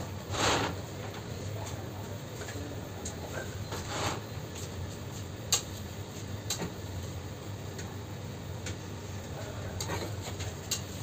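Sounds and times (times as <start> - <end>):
low hum of room noise: 0.0 - 11.0.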